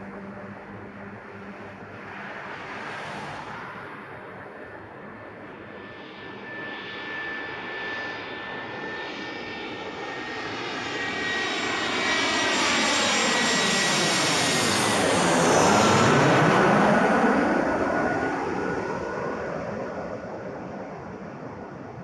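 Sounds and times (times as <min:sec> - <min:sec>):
airliner flying low overhead: 0:00.0 - 0:22.0.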